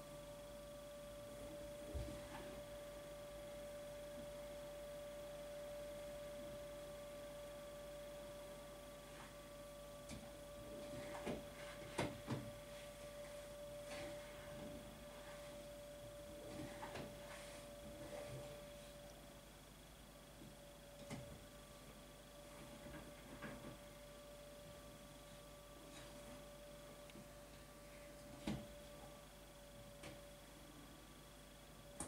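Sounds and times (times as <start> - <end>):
faint pitched hum: 0.0 - 32.0.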